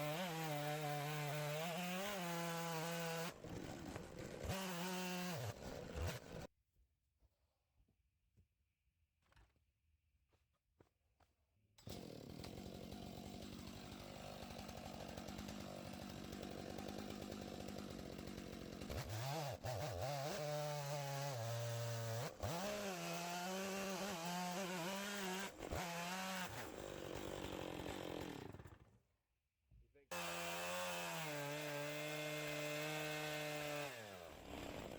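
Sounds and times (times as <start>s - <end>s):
chainsaw cutting log: 0.0s - 6.5s, 11.8s - 29.0s, 30.1s - 34.9s.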